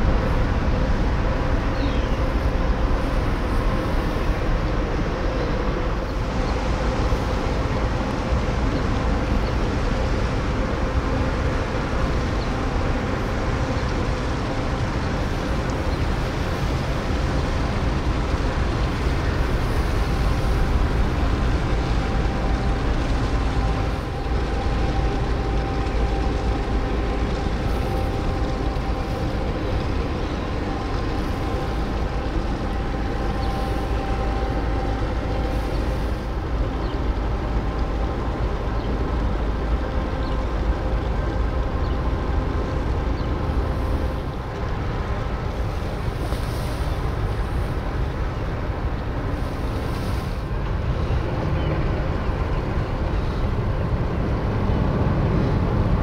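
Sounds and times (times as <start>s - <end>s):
faint humming tones: 0.0s - 56.0s
ship engines rumbling: 0.0s - 56.0s.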